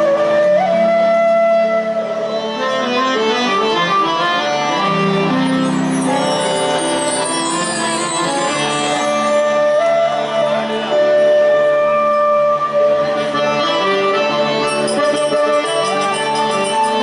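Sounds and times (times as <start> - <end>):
keyboard chords: 1.8 - 17.0
harmonium chords: 1.9 - 11.2, 11.9 - 17.0.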